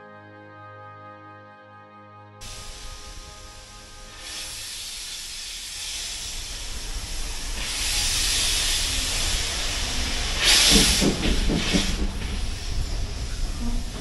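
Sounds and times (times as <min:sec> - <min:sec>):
low train rumble: 0:02.4 - 0:14.0
steam locomotive hissing: 0:02.4 - 0:14.0.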